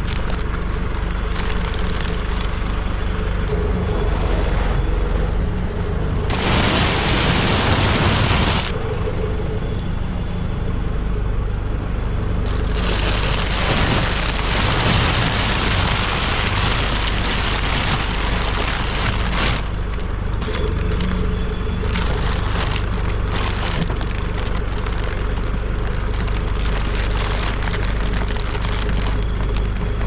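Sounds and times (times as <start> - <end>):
farm vehicle engine running: 0.0 - 30.0.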